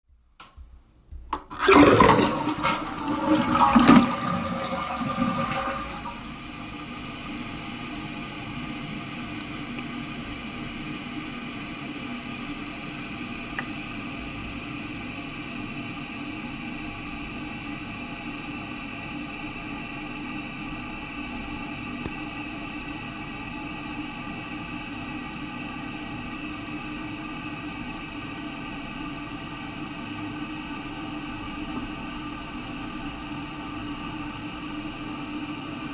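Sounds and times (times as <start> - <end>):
toilet tank refilling: 1.3 - 17.0, 18.3 - 35.9
toilet flushing: 1.3 - 35.9.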